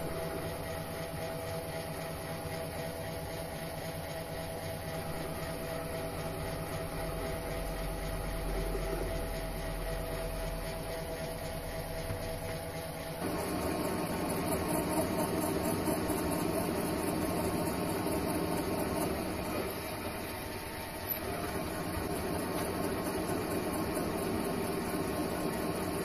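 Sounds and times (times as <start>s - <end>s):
lathe motor humming: 0.0s - 26.0s.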